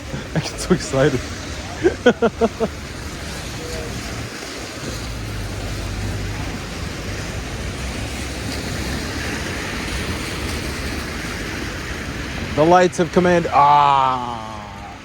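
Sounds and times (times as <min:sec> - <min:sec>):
rain hiss on city street: 0:00.0 - 0:15.0.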